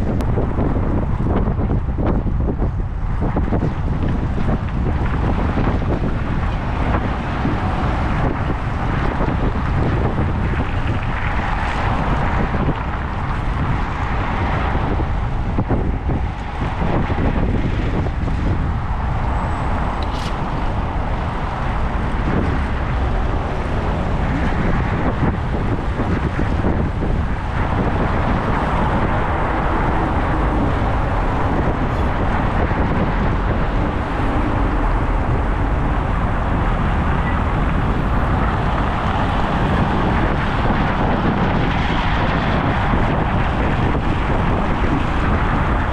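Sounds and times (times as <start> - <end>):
road traffic hum: 0.0 - 45.9
wind rushing over microphone: 0.0 - 45.9.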